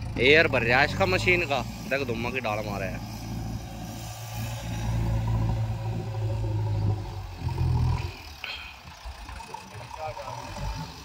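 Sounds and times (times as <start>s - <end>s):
backhoe diesel engine droning: 0.0s - 11.0s.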